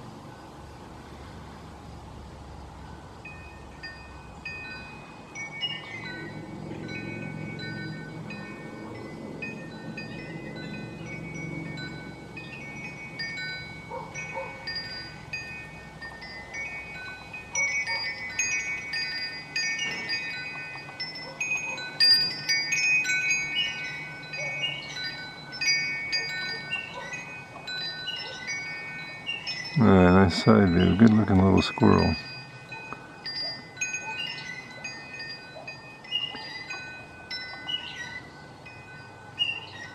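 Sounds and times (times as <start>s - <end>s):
wind chimes ringing: 2.6s - 39.9s.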